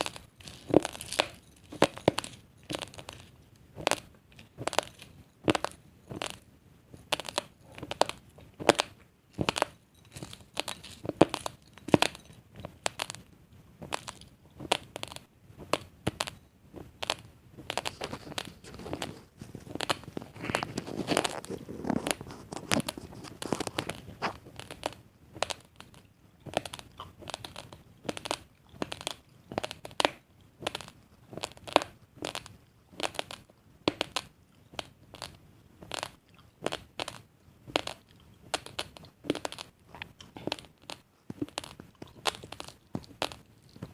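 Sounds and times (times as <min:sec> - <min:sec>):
rice grains crunched by chewing: 0:00.0 - 0:43.9.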